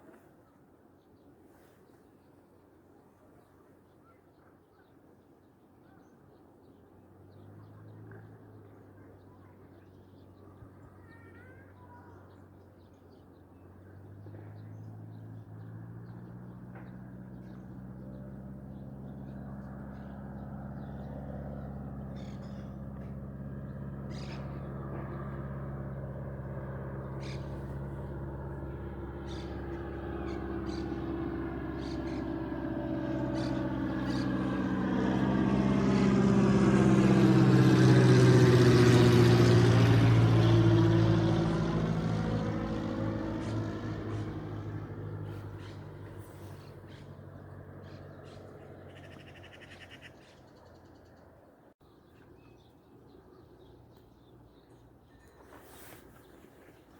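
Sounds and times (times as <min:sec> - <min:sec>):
propeller aircraft engine drone: 0:06.8 - 0:56.9.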